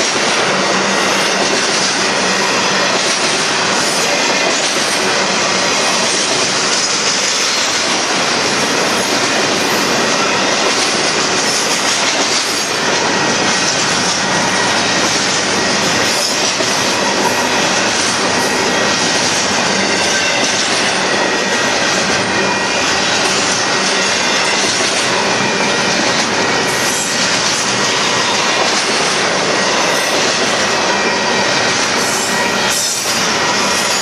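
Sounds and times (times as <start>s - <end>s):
train wheels rushing on rails: 0.0s - 34.0s.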